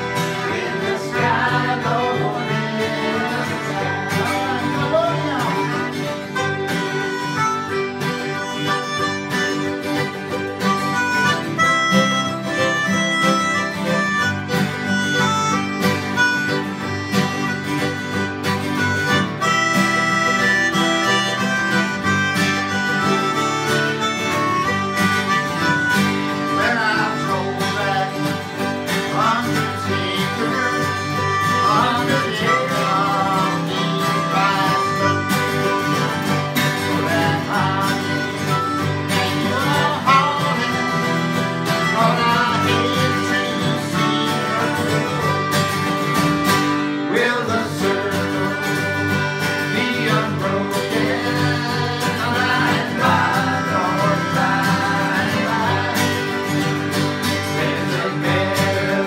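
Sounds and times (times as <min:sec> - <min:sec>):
country music with plucked guitar: 0:00.0 - 0:59.0.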